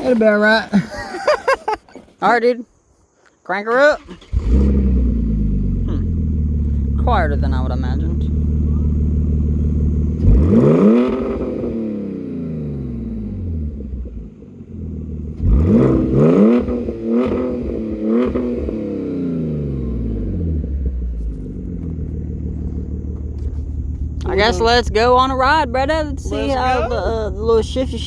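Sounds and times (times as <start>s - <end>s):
car engine idling and revving: 4.0s - 28.0s.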